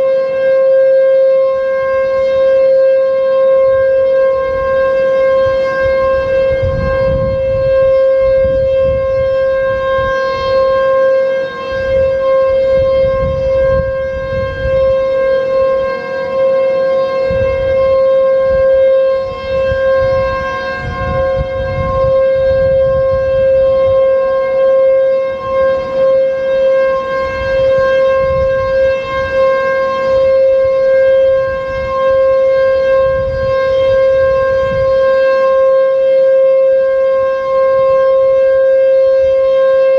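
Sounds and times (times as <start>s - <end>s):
siren holding steady pitch: 0.0s - 39.9s.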